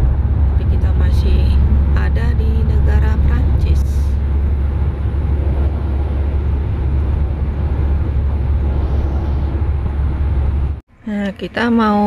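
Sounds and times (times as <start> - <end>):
engine and tyre rumble: 0.0 - 10.8.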